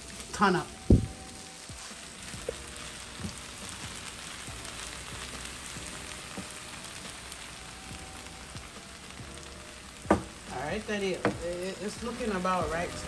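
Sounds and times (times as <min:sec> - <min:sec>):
fried rice sizzling in skillet: 0:00.0 - 0:13.0.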